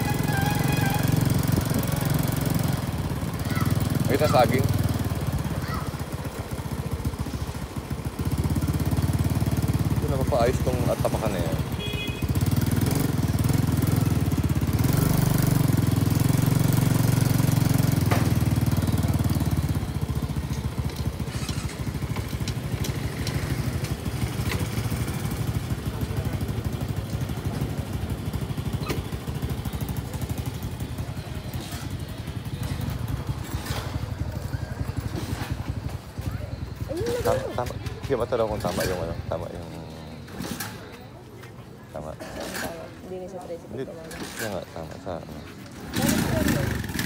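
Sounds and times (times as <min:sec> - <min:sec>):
small engine running: 0:00.0 - 0:11.7, 0:12.4 - 0:40.9, 0:43.7 - 0:47.0.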